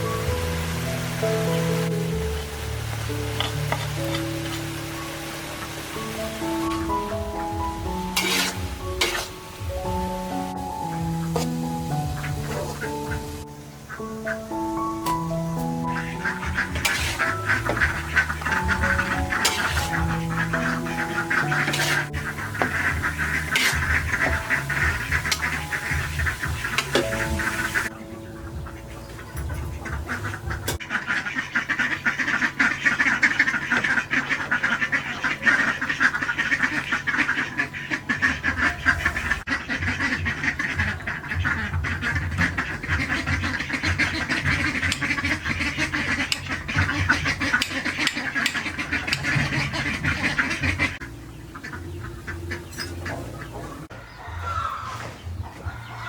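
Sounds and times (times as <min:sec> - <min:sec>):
flock of ducks quacking: 0:00.0 - 0:56.0.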